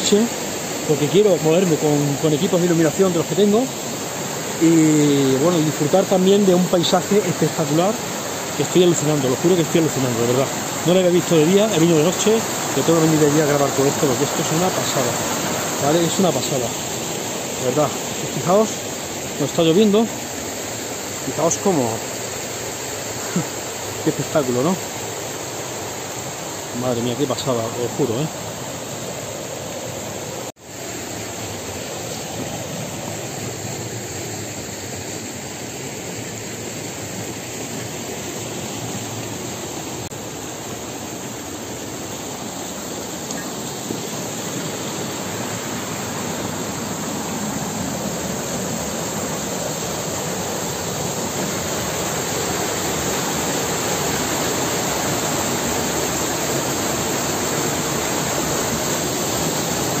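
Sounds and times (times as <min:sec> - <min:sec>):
rushing water roar: 0:00.0 - 1:00.0.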